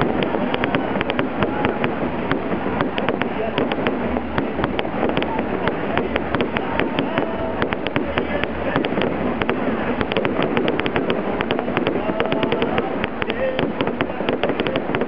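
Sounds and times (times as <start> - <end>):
background din: 0.0 - 15.0
fireworks bangs and crackles: 0.0 - 15.0.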